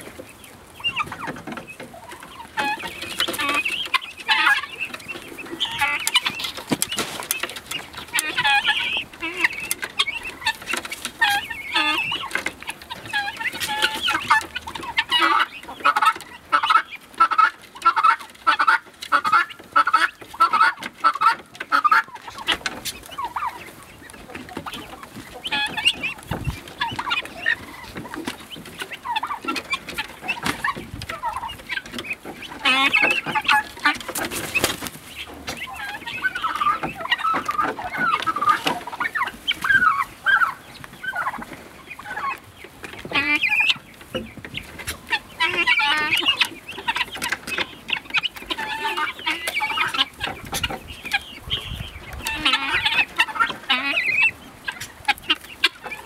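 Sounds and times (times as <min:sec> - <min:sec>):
guineafowl calling: 0:00.0 - 0:56.0.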